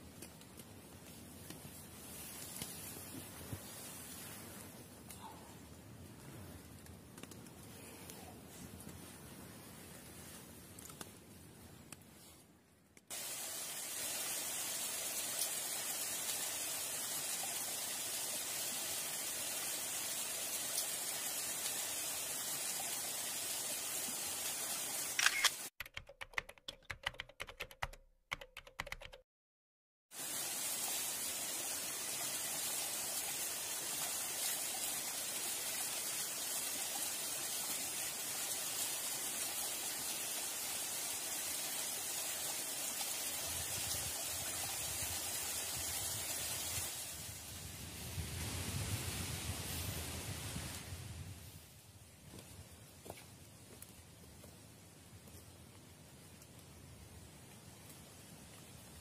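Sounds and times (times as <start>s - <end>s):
rain falling: 0.0s - 11.2s, 13.1s - 25.7s, 30.1s - 51.4s, 52.3s - 59.0s.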